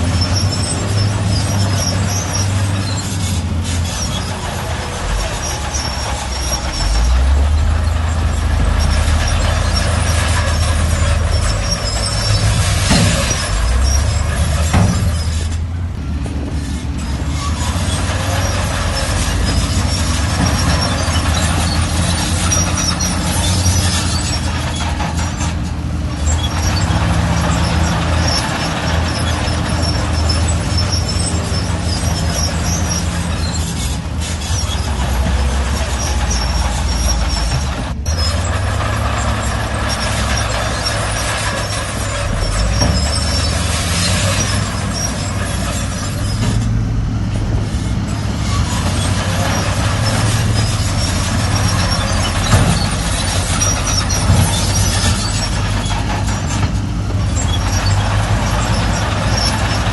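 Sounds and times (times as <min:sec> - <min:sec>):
bulldozer diesel engine running: 0:00.0 - 0:59.9
steel tracks squeaking and clanking: 0:00.0 - 0:59.9.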